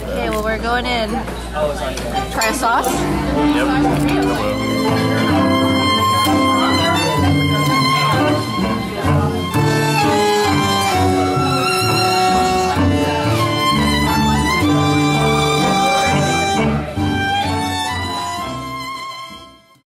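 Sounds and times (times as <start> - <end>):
tango ensemble playing: 2.8 - 19.8
violin with vibrato: 2.9 - 19.8.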